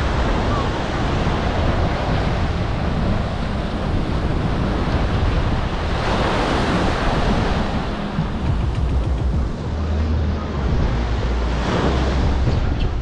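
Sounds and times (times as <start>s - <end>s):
small ocean waves breaking: 0.0s - 12.9s
wind buffeting microphone: 0.0s - 13.0s.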